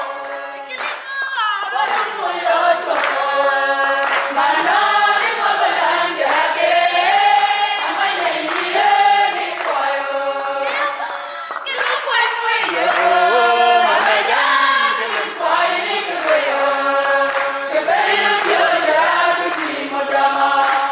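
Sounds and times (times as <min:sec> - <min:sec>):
hand claps: 0:00.0 - 0:20.9
women singing together: 0:00.0 - 0:20.9.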